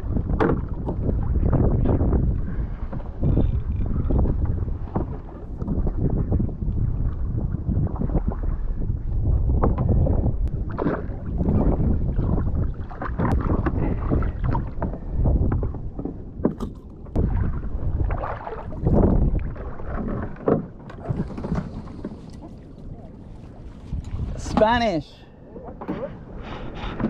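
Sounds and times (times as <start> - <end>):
water washing against kayak hull: 0.0 - 27.0
wind buffeting microphone: 0.0 - 27.0.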